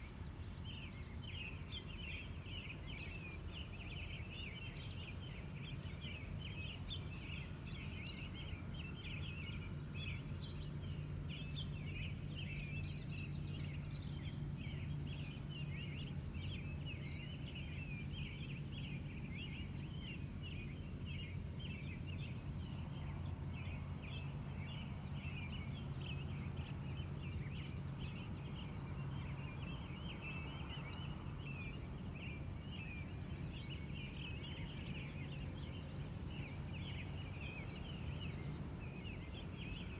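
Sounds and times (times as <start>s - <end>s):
low steady hum: 0.0s - 39.9s
pulsing insect trill: 0.0s - 39.9s.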